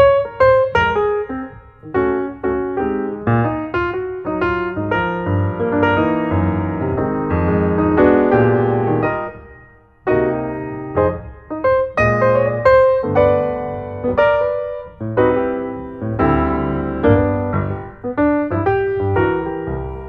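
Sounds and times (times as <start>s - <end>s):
piano chords over bass line: 0.0s - 20.0s.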